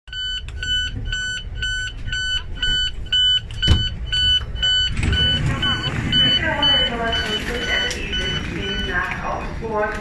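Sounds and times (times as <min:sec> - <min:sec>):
door warning short high beeps: 0:00.1 - 0:09.5.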